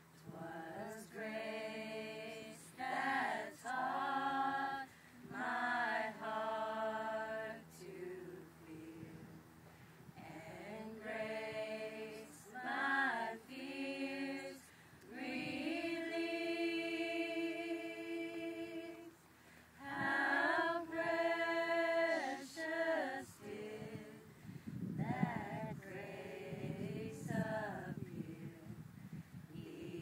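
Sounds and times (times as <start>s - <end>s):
women's choir singing a cappella: 0.2s - 9.4s, 10.1s - 19.2s, 19.8s - 24.3s, 24.9s - 28.8s, 29.4s - 30.0s.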